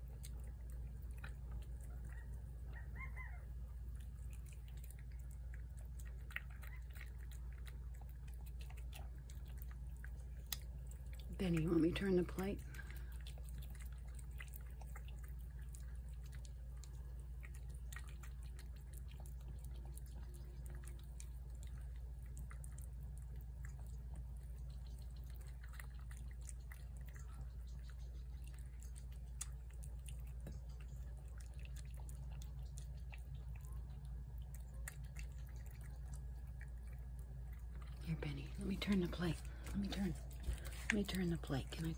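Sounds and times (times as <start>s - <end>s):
cat chewing wetly: 0.0s - 41.9s
steady low hum: 0.0s - 41.9s.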